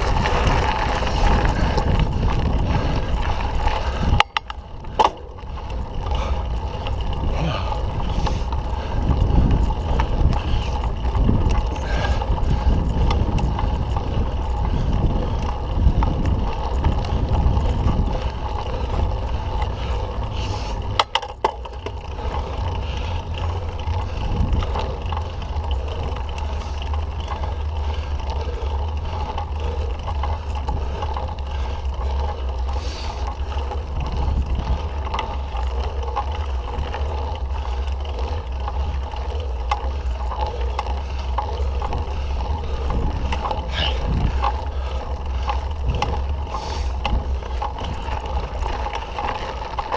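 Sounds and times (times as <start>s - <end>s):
bike tyre and drivetrain noise: 0.0s - 49.9s
wind rumbling on microphone: 0.0s - 49.9s.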